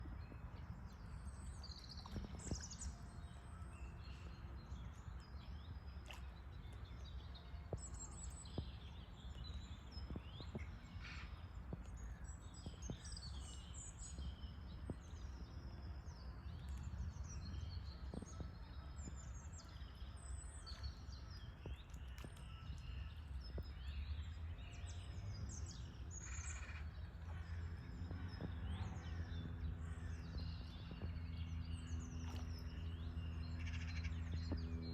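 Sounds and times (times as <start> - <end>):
low background rumble: 0.0 - 34.9.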